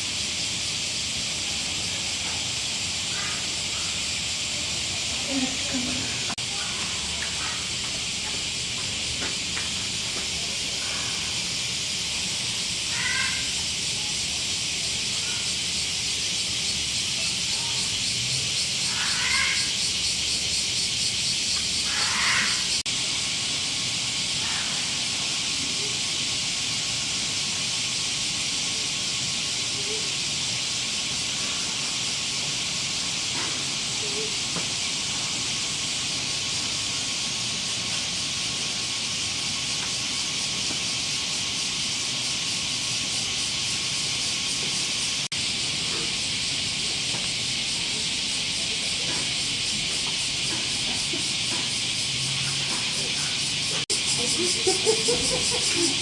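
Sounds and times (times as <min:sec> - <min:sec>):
high-pitched hiss: 0:00.0 - 0:56.0.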